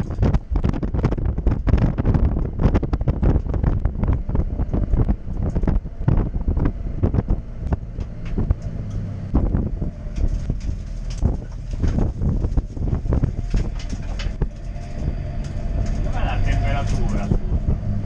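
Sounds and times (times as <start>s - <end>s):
diesel engine running: 0.0s - 18.0s
interior rattling and knocking: 0.0s - 18.0s.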